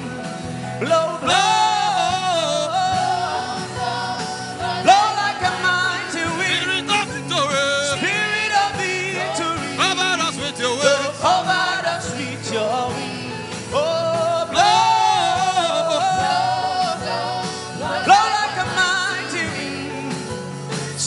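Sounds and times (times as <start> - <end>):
gospel instrumental backing with beat: 0.0 - 21.0.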